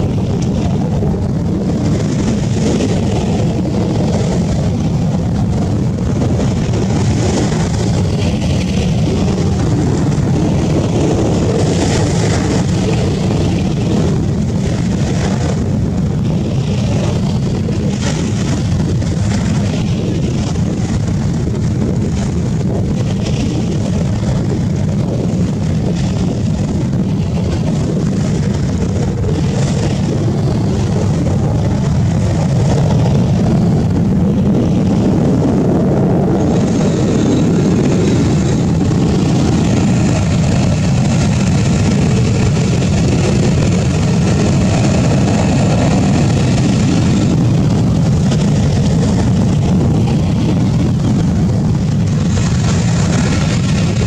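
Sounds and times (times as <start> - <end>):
jet engine roaring: 0.0 - 54.0.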